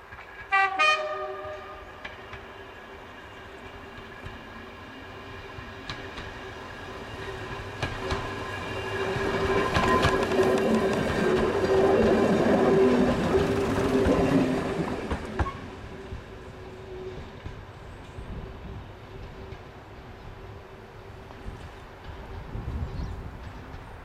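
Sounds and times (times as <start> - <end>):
diesel train engine drone: 0.0 - 24.0.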